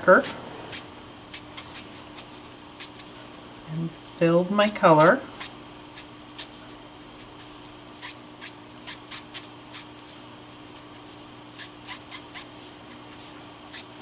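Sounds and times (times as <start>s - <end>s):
marker strokes on cardstock: 0.0s - 3.4s, 4.9s - 14.0s
faint hum: 0.0s - 14.0s.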